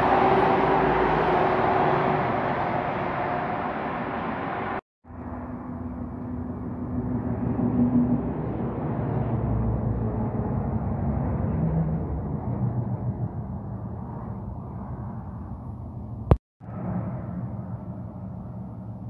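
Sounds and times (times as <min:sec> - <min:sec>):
trucks passing on highway: 0:00.0 - 0:19.0.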